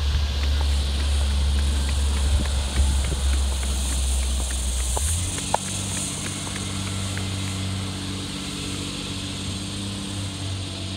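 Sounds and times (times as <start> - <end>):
garbage truck engine rumbling: 0.0 - 10.9.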